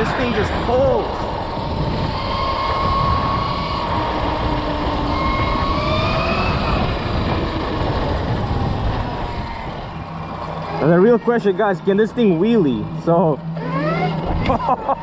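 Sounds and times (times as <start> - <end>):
electric motor whine: 0.0 - 15.0
wind and tyre rush: 0.0 - 15.0.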